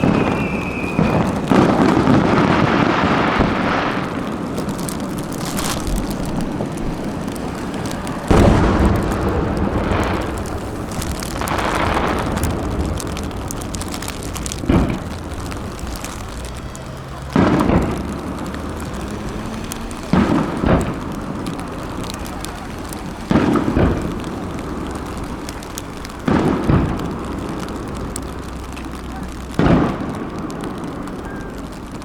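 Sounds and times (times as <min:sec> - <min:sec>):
rumbling echo: 0:00.0 - 0:31.2
fireworks booming: 0:00.0 - 0:32.0.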